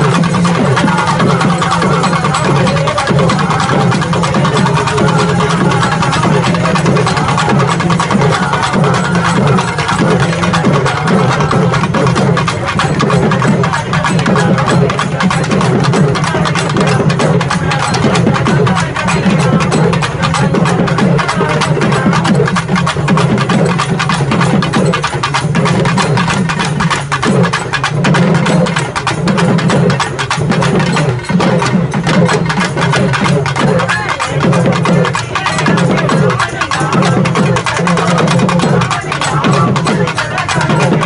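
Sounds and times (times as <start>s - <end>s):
fast stick drumming: 0.0s - 41.0s.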